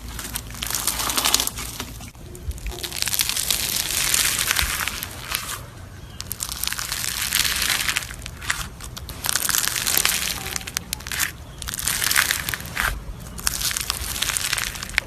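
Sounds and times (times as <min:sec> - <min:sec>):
slime crackling and crunching: 0:00.0 - 0:15.0.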